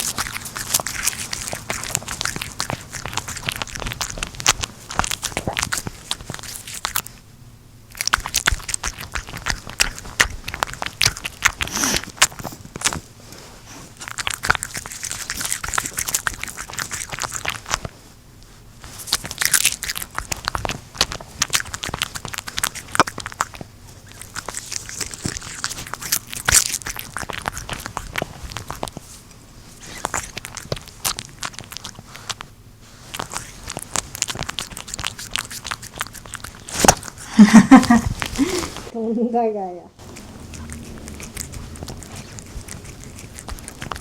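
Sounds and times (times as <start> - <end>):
cat chewing crunchy food: 0.0 - 38.9, 40.0 - 44.0.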